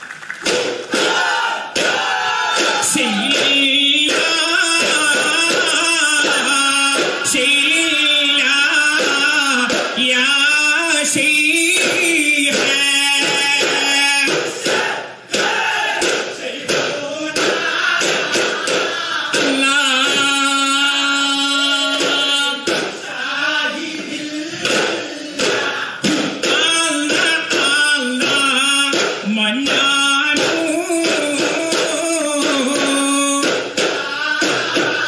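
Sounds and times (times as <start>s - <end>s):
male voices singing in chorus: 2.4s - 35.0s.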